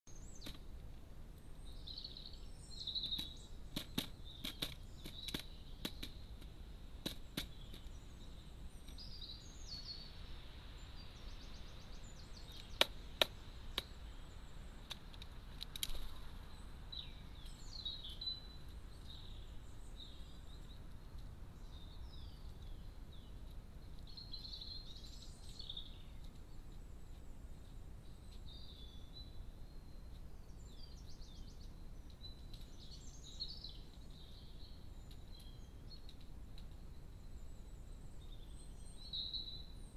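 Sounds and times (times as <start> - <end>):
small birds chirping: 0.0 - 39.9
steady background hiss: 0.1 - 39.9.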